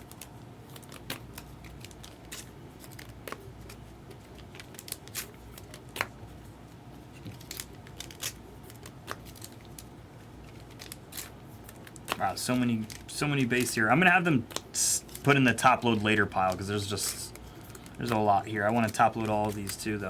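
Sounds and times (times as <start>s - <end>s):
cards clicking and rustling: 0.0s - 6.4s, 7.1s - 20.0s
low steady hum: 0.0s - 20.0s.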